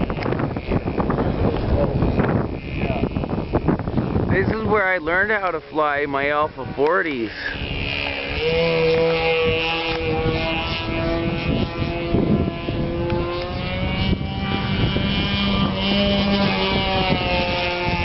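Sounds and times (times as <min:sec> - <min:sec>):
model plane engine buzzing: 0:00.0 - 0:18.0
wind on microphone: 0:00.0 - 0:18.0.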